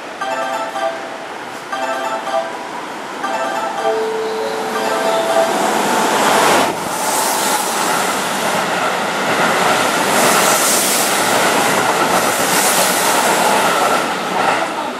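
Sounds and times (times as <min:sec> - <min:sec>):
express train rushing past: 0:00.0 - 0:14.9.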